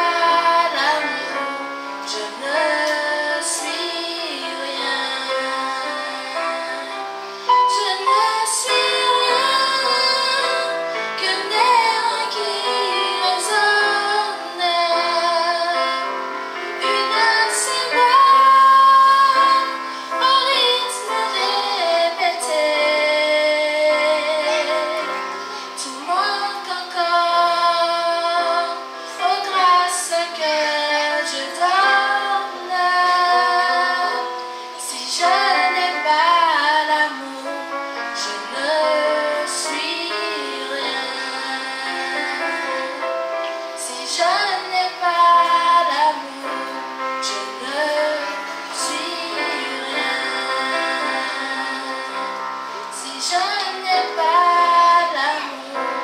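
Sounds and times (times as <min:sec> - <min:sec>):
guitar: 0:00.0 - 0:56.0
keyboard: 0:00.0 - 0:56.0
woman singing into microphone: 0:00.0 - 0:56.0.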